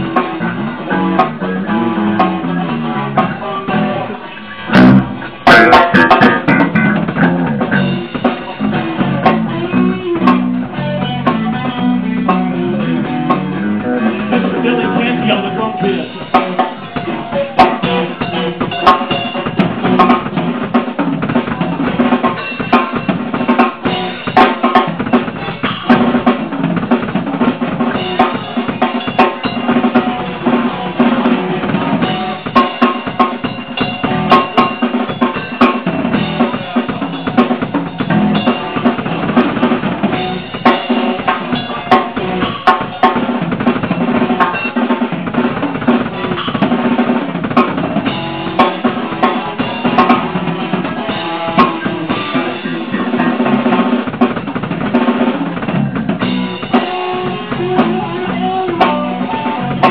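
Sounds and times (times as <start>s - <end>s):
drum solo: 0.0s - 59.9s.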